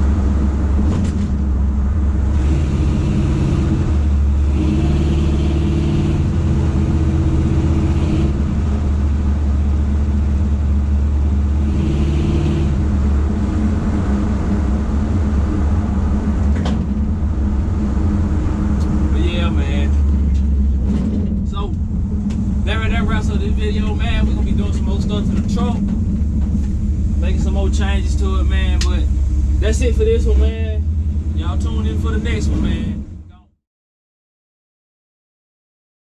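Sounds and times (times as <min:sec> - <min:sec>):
truck exhaust drone from cab: 0:00.0 - 0:33.6.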